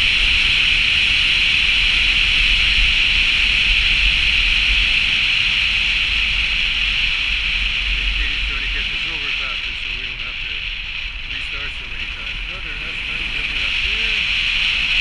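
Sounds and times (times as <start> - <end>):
tyres rumbling on road: 0.0 - 15.0
wind hissing over camera: 0.0 - 15.0.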